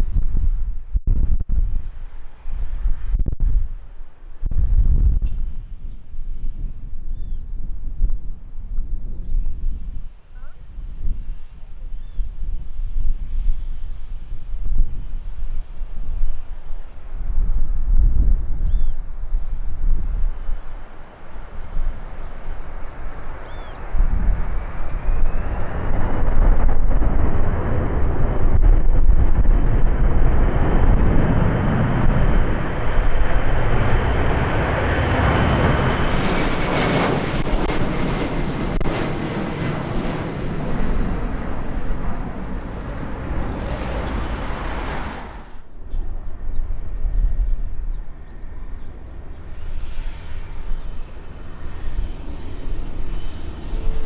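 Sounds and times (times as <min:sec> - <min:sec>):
jet engines passing with whine: 0:05.2 - 0:54.0.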